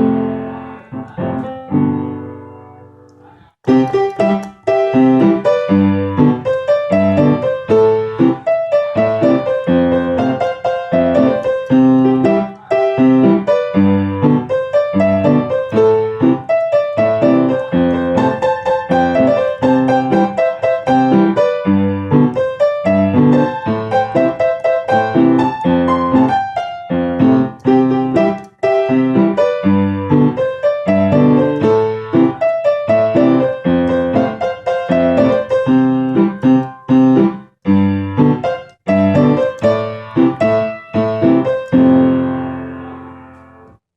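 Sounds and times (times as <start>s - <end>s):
piano music: 0.0s - 43.8s.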